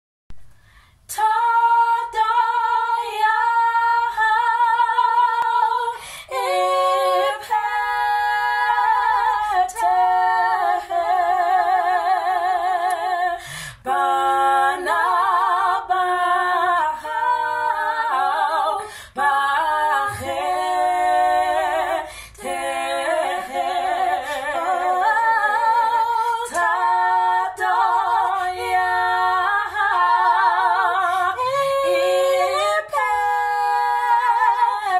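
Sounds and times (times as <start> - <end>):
women singing a cappella: 0.6 - 34.9.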